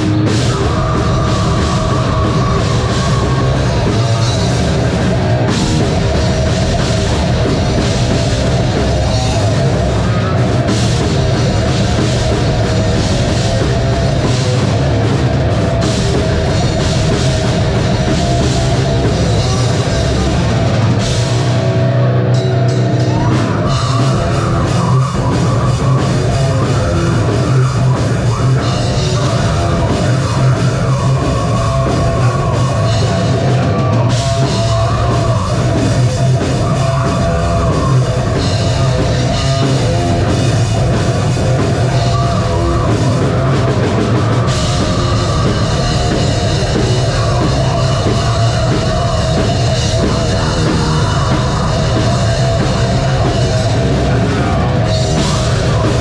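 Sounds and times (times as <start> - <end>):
live metal band playing: 0.0 - 56.0.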